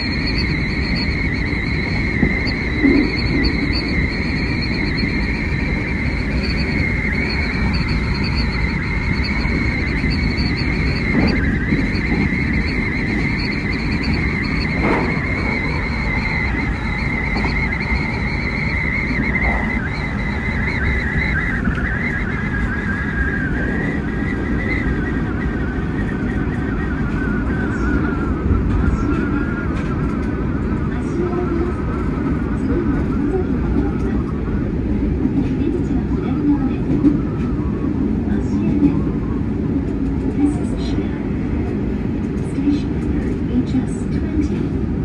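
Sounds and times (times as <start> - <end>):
high electric whine: 0.0 - 43.4
train wheels rumbling on track: 0.0 - 45.0.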